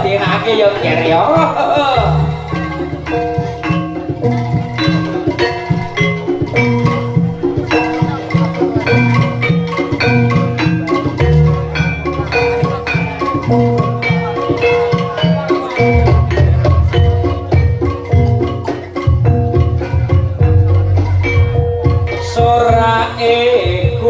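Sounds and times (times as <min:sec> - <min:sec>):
drum beat: 0:00.0 - 0:24.0
metallophones playing: 0:00.0 - 0:24.0.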